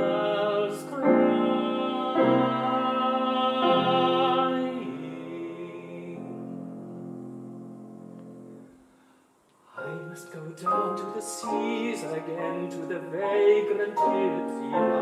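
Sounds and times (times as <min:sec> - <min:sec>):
person singing: 0:00.0 - 0:06.8, 0:09.7 - 0:15.0
piano: 0:00.0 - 0:15.0.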